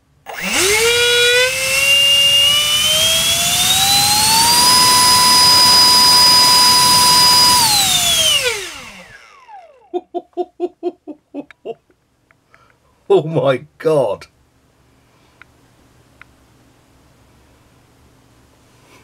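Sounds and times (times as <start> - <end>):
electric fan whine: 0.0 - 10.9, 14.0 - 19.0.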